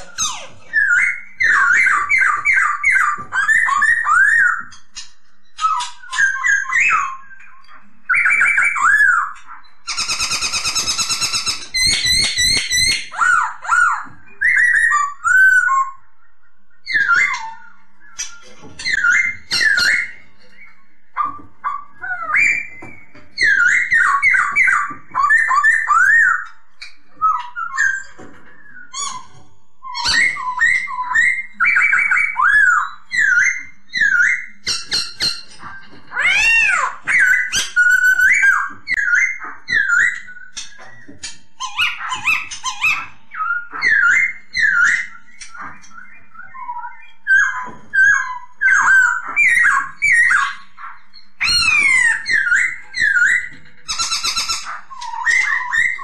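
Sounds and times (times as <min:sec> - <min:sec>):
bird singing whistled notes: 0:00.0 - 0:56.0.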